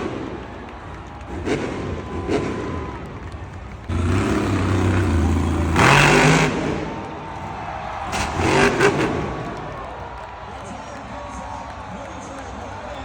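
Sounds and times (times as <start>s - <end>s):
monster truck engine revving: 0.0s - 11.7s.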